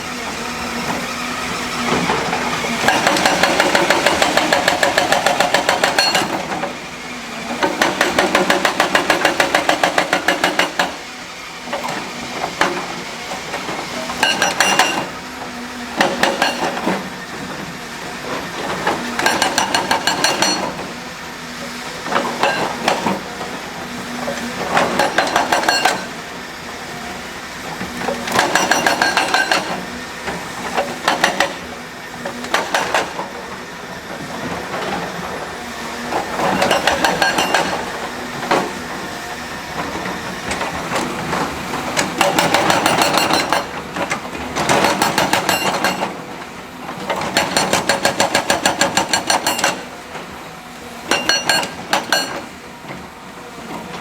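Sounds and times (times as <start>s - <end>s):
heavy construction machinery running: 0.0s - 54.0s.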